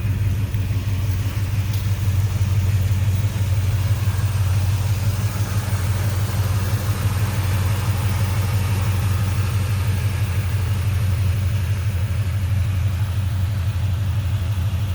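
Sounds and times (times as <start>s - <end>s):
truck engine idling: 0.0s - 14.9s.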